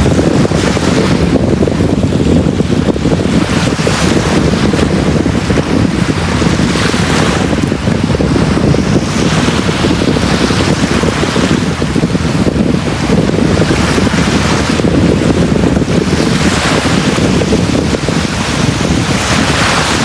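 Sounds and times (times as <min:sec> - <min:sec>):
waves rumbling: 0:00.0 - 0:20.0
wind buffeting microphone: 0:00.0 - 0:20.0.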